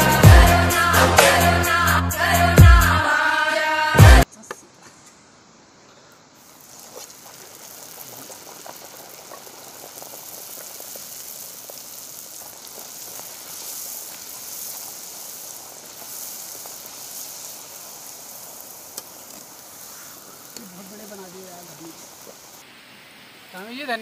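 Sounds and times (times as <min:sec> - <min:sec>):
oil sizzling and crackling: 0:00.0 - 0:02.6, 0:06.3 - 0:24.0.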